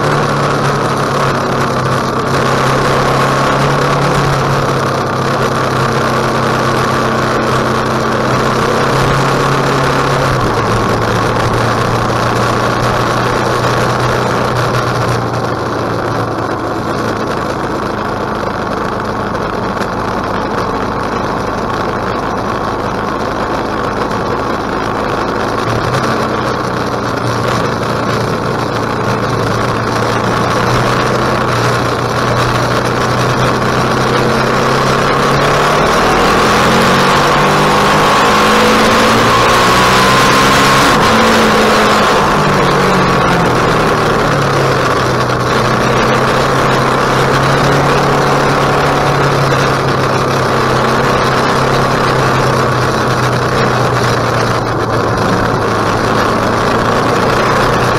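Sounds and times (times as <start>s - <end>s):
motorcycle engine running: 0.0s - 57.9s
steady rushing noise: 0.0s - 57.9s.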